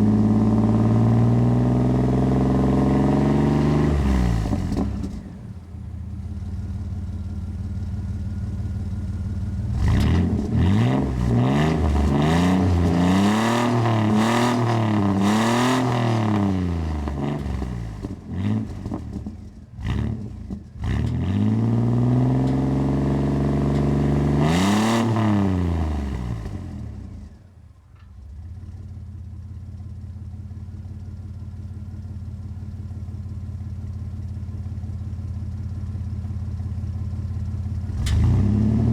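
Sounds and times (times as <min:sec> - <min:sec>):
pickup engine idling and revving: 0:00.0 - 0:38.9.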